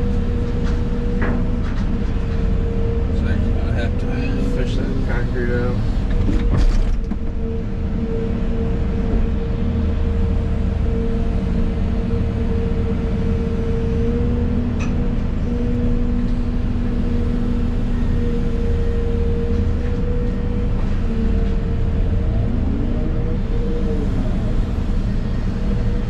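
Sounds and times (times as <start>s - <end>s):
diesel engine rumble and whine: 0.0s - 26.0s.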